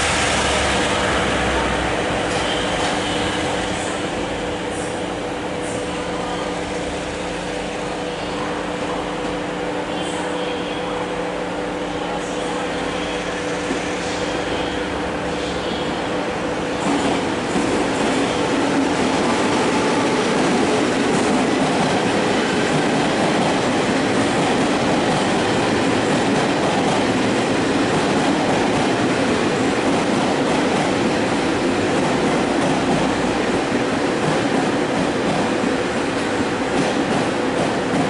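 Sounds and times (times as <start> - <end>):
train wheels rumbling on rails: 0.0 - 10.7, 12.3 - 38.0.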